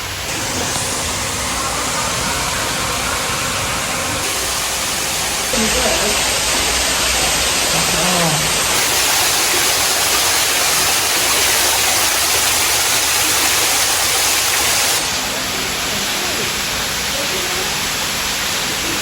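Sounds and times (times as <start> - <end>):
falling water rushing: 0.0 - 19.0.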